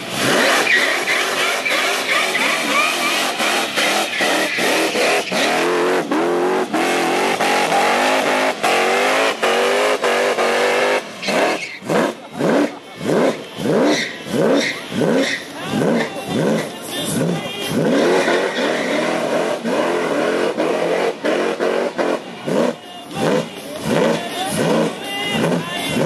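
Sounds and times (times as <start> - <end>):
engine revving with tyres spinning: 0.0 - 26.0.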